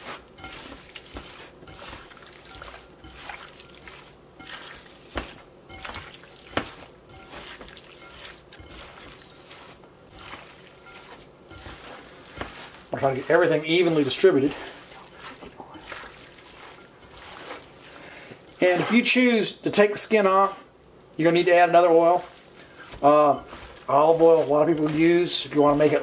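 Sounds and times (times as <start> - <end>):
wet squishing of hands mixing meat: 0.0 - 26.0.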